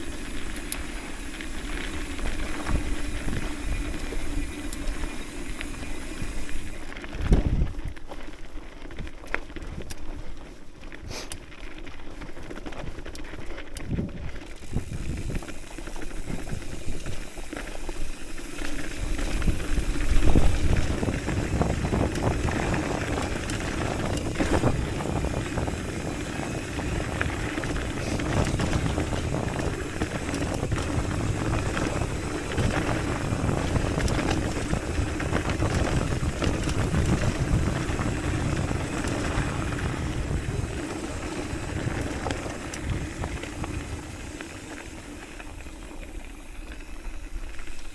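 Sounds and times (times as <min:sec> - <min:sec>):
wind rushing over microphone: 0:00.0 - 0:08.0, 0:13.8 - 0:17.3, 0:18.0 - 0:45.2
bike rattling over bumps: 0:00.0 - 0:47.9
bike tyre noise: 0:00.0 - 0:47.9.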